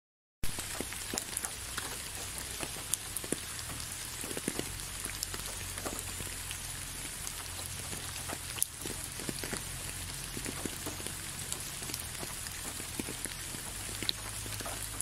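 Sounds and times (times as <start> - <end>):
raindrops ticking: 0.4 - 15.0
steady rain hissing: 0.4 - 15.0.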